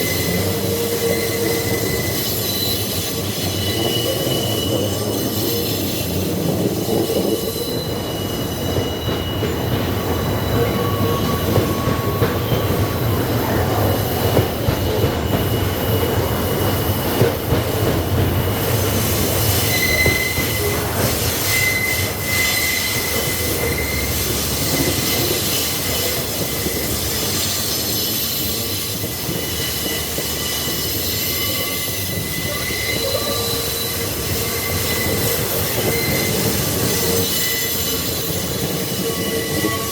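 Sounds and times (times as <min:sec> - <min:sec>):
freight train wagons rumbling: 0:00.0 - 0:39.9
wheels squealing on rails: 0:00.0 - 0:39.9.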